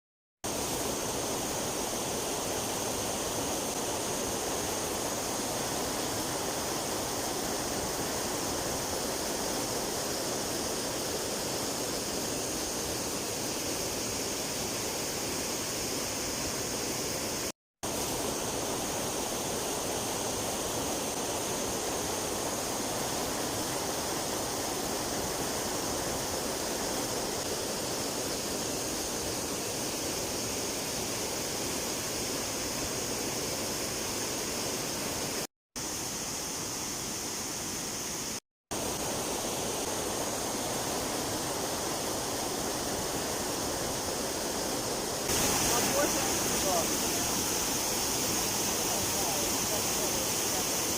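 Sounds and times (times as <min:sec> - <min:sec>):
mountain stream rushing: 0:00.4 - 0:50.9.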